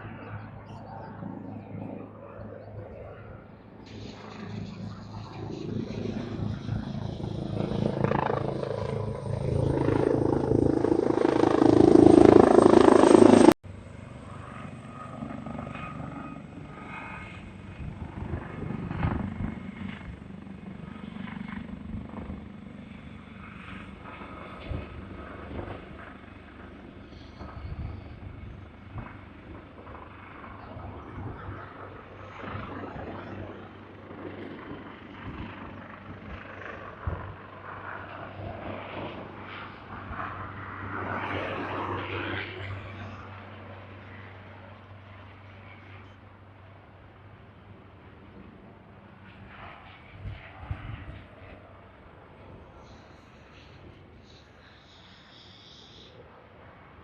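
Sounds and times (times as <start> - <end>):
distant aircraft rumble: 0.0 - 57.0
plane passing close: 0.0 - 57.0.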